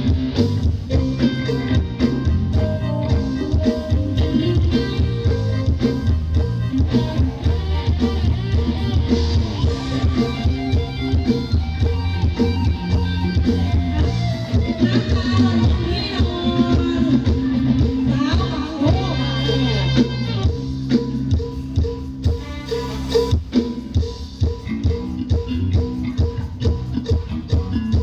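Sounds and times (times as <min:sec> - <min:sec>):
drum kit beat: 0:00.0 - 0:28.0
heavy bass: 0:00.0 - 0:28.0
plucked guitar lead: 0:00.0 - 0:28.0.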